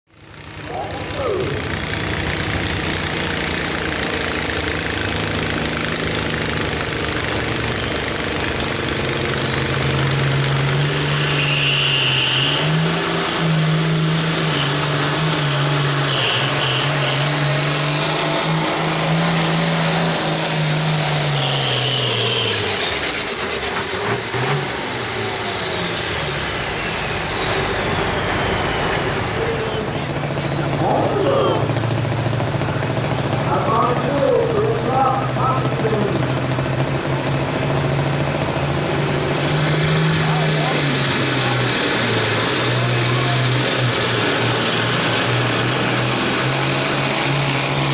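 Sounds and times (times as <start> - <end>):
high turbo whine: 0.1 - 47.9
tractor engine under load: 0.1 - 47.9.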